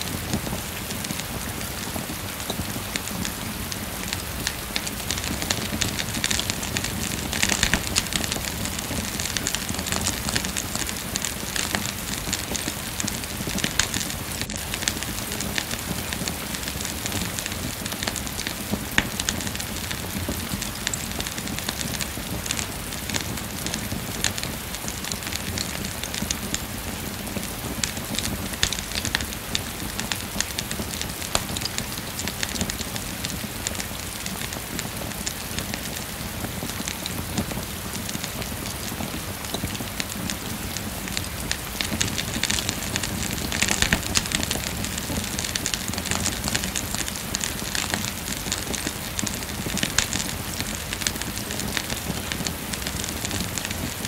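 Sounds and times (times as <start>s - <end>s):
steady rain falling: 0.0s - 54.0s
wood fire crackling and popping: 0.0s - 54.0s.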